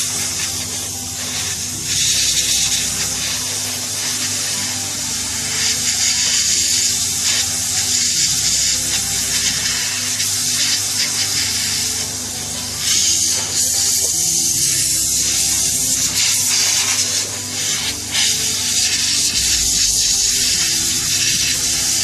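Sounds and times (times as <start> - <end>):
hot air gun blowing: 0.0 - 22.0.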